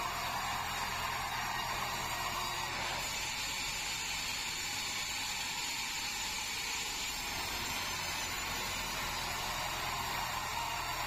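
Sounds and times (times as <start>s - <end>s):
band sawmill running: 0.0s - 11.0s.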